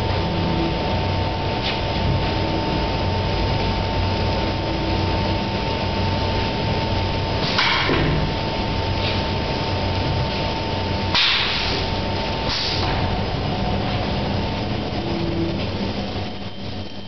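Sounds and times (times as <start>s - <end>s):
machine running with low hum: 0.0s - 17.0s
thin steady whine: 0.0s - 17.0s.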